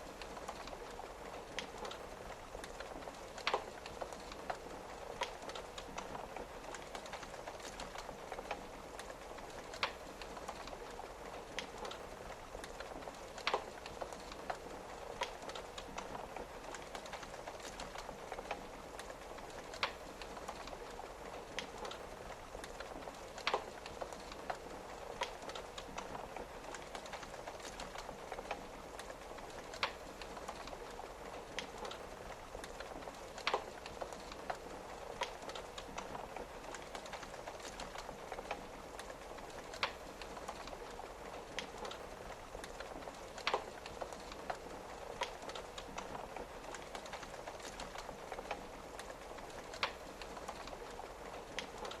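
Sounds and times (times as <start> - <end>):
rain on a window: 0.0 - 52.0
wood fire crackling: 0.0 - 52.0.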